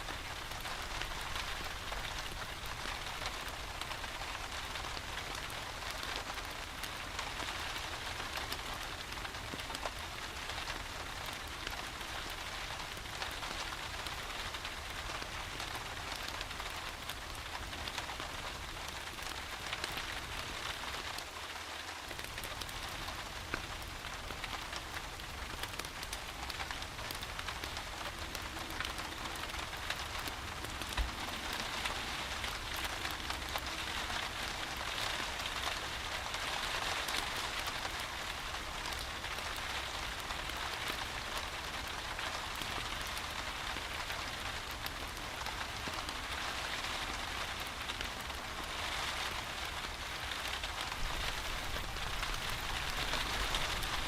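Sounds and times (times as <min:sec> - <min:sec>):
rain falling: 0:00.0 - 0:54.0
wood fire crackling: 0:00.0 - 0:54.0.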